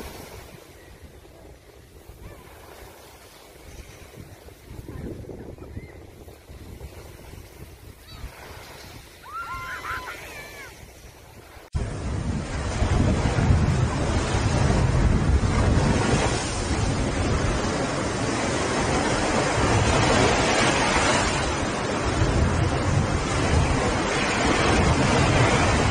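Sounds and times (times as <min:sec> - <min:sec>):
small waves breaking on a beach: 0:00.0 - 0:25.9.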